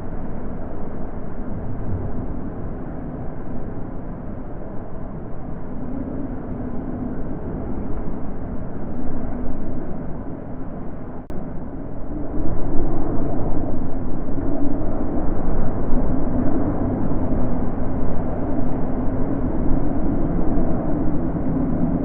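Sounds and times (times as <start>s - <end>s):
wind blowing: 0.0s - 22.0s.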